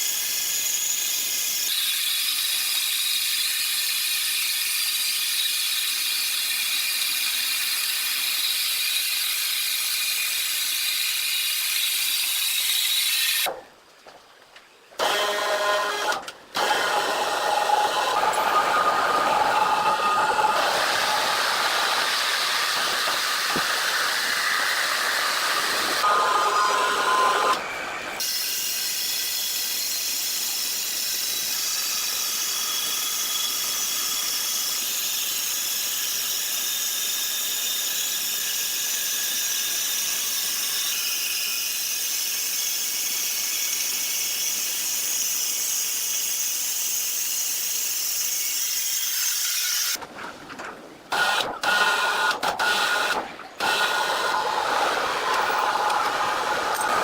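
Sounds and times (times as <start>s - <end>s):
sawmill machinery hissing and whining: 0.0s - 13.5s, 15.0s - 50.0s, 51.2s - 57.0s.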